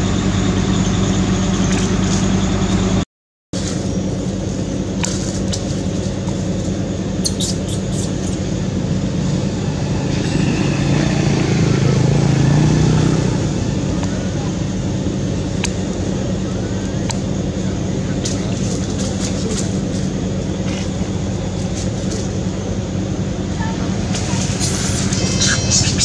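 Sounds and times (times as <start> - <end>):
vehicle engine idling: 0.0 - 3.0, 3.6 - 26.0.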